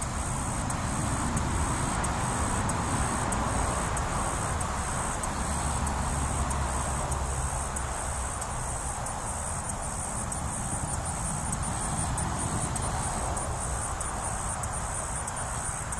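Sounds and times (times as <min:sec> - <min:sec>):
high-pitched pulsing insect buzz: 0:00.0 - 0:15.9.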